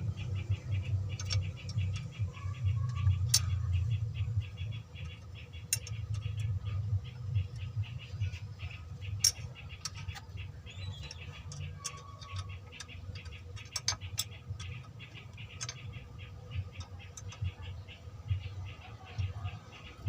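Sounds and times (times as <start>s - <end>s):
diesel engine idling: 0.0s - 20.0s
sharp metallic clicks: 0.0s - 20.0s.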